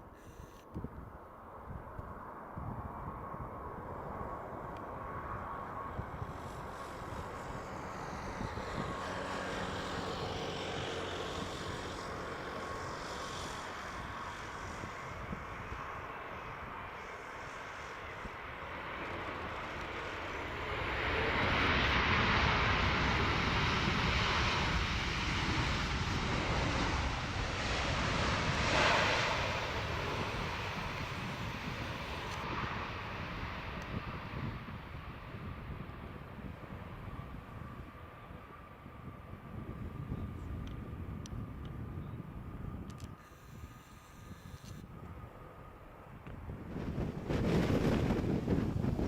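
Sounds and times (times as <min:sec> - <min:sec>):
jet engines passing: 0:01.3 - 0:49.0.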